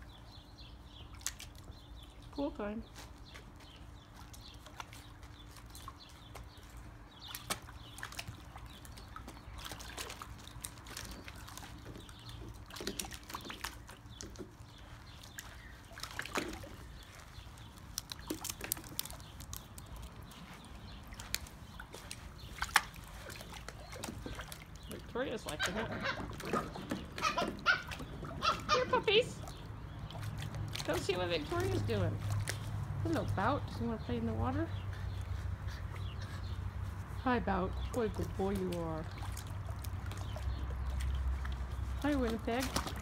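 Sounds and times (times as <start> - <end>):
puppies splashing in water: 0.0 - 43.0.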